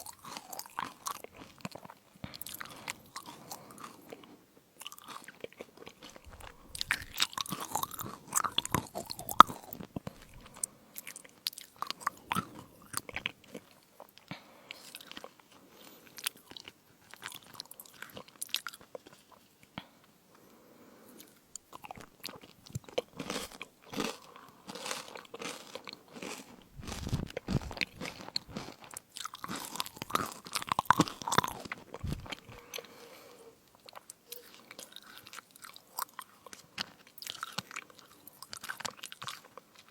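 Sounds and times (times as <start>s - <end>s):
crunchy chewing of crisps: 0.0s - 39.9s.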